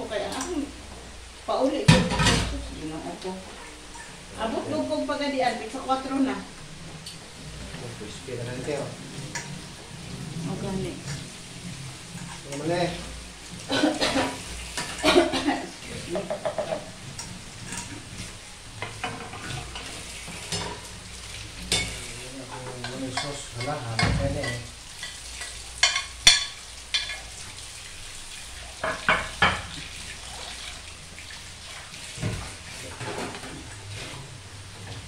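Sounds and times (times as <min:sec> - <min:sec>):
food frying in hot oil: 0:00.0 - 0:35.0.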